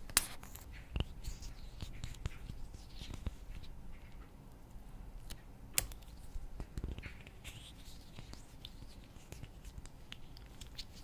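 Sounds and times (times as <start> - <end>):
slime squishing: 0.2 - 4.3, 5.3 - 11.0.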